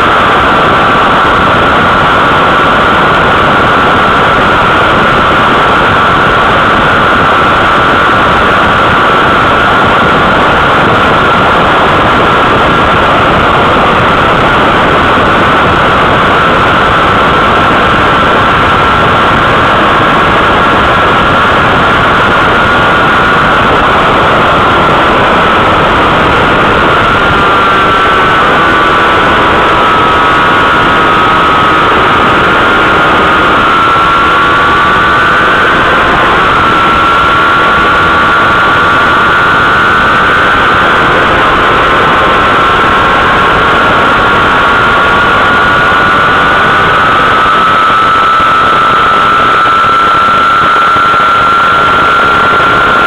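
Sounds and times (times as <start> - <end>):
motorcycle engine whining: 0.0 - 53.0
wind roar: 0.0 - 53.0.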